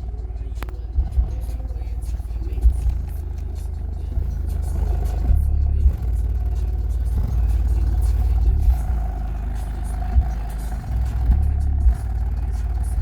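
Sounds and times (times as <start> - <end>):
subwoofer playing deep bass notes: 0.0 - 13.0.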